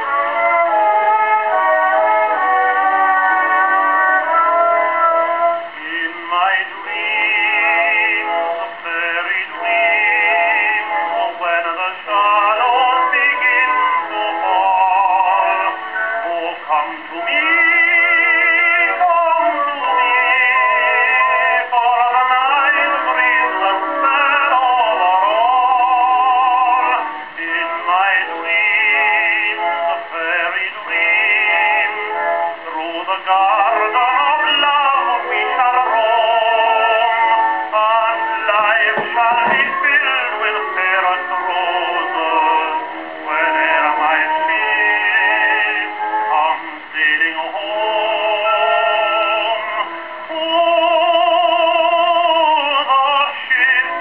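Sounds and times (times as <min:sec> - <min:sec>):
tenor singing on a phonograph: 0:00.0 - 0:54.0.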